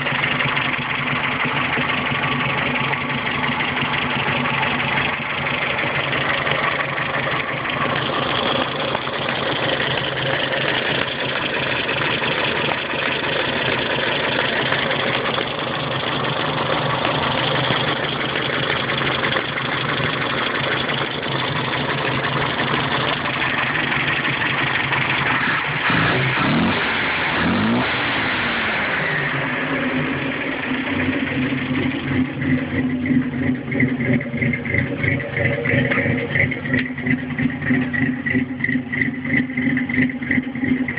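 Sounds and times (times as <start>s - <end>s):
pickup engine running and revving: 0.0s - 40.9s.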